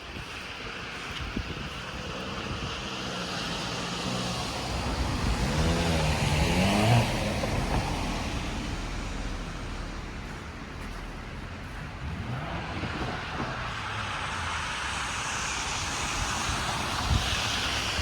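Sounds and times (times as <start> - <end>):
car passing by: 0.1 - 18.0.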